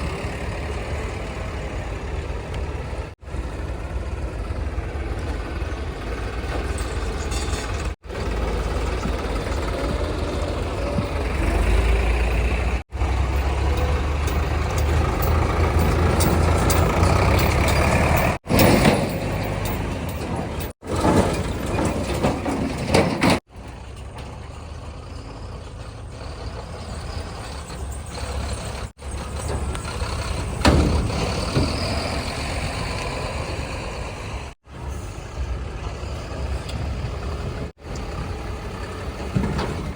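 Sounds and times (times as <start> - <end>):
diesel engines revving: 0.0 - 39.9.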